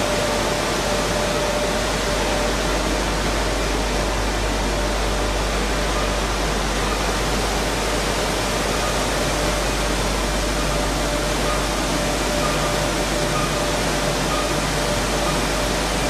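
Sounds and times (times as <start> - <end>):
grain milling machinery running: 0.0 - 16.0.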